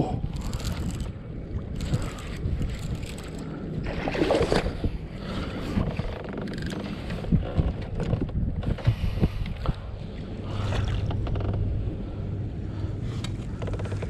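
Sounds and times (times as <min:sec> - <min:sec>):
water lapping against kayak hull: 0:00.0 - 0:14.0.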